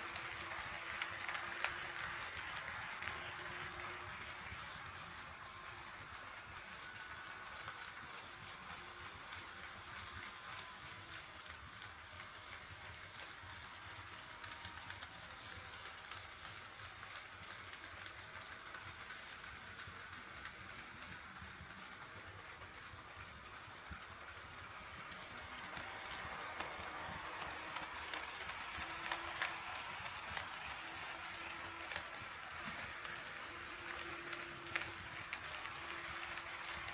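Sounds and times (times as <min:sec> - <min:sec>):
model train running on track: 0:00.0 - 0:36.9.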